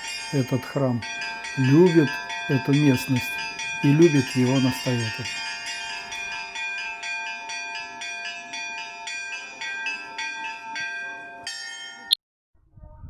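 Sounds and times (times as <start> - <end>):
church bells ringing in a peal: 0.0 - 12.1.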